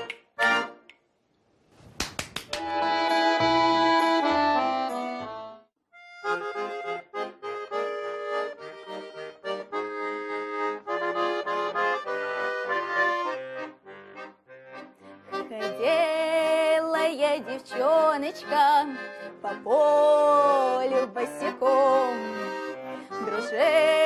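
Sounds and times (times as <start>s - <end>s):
accordion melody: 0.0s - 1.0s, 2.6s - 24.0s.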